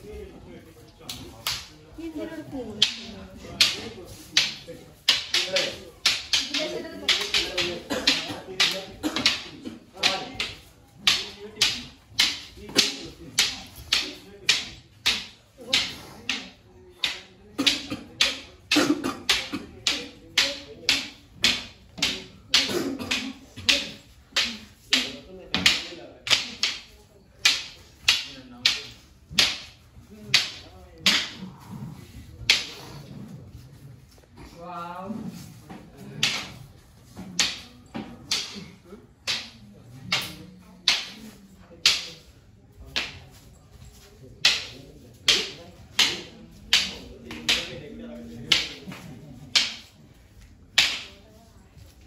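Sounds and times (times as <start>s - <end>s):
wooden staffs clacking together: 0.8s - 34.5s, 35.4s - 52.0s.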